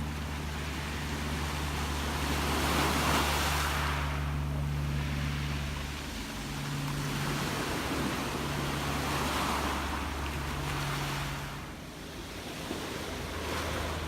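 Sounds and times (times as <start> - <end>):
gentle ocean waves: 0.0 - 14.0
steady low rumble: 0.0 - 14.0.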